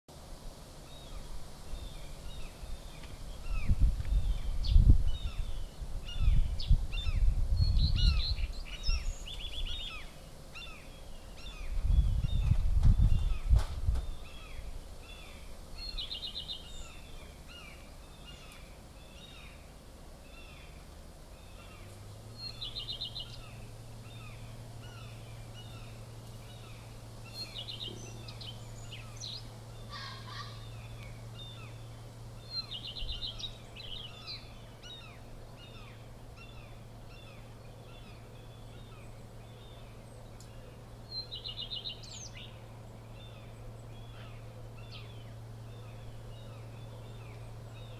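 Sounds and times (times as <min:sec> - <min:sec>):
steady low hum: 0:00.1 - 0:47.9
small birds chirping: 0:00.8 - 0:47.9.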